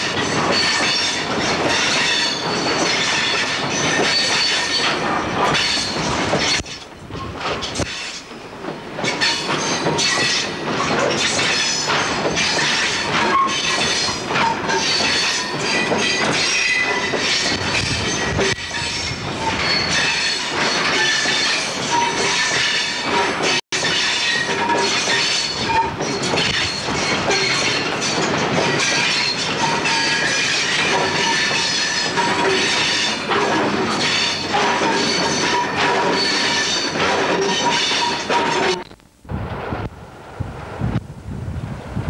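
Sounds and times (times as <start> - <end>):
train wheels clattering over track: 0.0 - 38.8
wheels squealing: 0.2 - 38.8.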